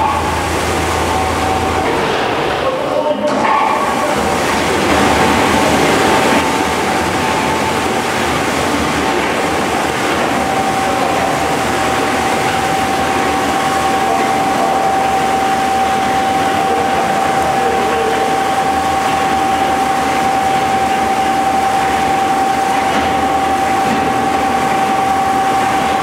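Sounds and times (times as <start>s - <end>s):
high motor whine: 0.0s - 26.0s.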